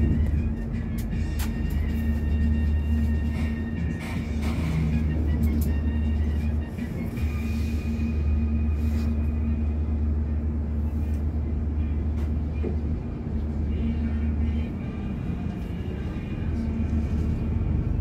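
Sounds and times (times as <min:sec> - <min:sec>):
low engine drone: 0:00.0 - 0:18.0
road rumble: 0:00.0 - 0:18.0.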